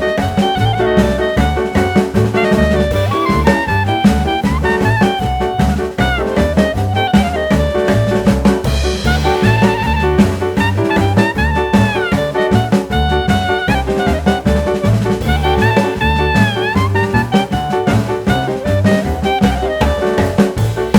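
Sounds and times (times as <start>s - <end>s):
up-tempo jazz with horns: 0.0s - 20.9s.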